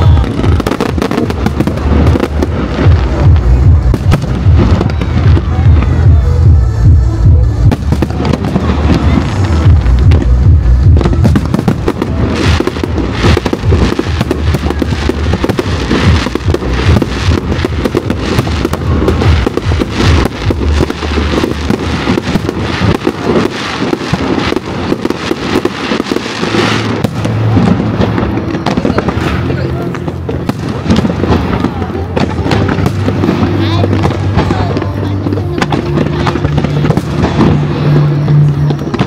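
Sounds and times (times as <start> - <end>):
fireworks crackling and popping: 0.0 - 39.0
loud music with heavy bass: 0.0 - 39.0.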